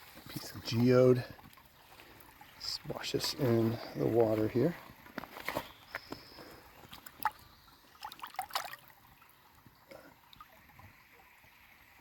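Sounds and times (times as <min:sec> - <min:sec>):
small water splashes: 0:00.0 - 0:12.0
trickling water: 0:00.0 - 0:12.0.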